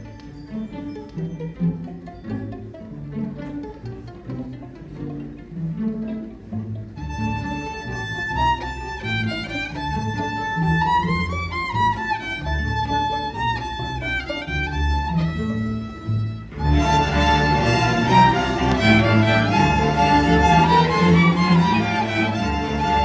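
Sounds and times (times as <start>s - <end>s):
low-pitched notes: 0.0s - 23.0s
violin slow melody: 0.0s - 23.0s.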